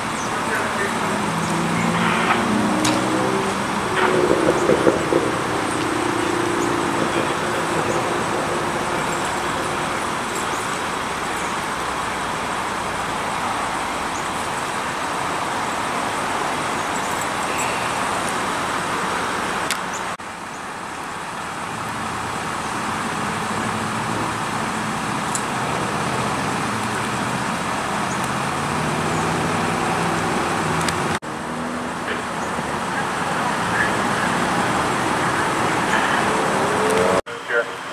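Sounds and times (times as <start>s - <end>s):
traffic rumbling: 0.0s - 37.9s.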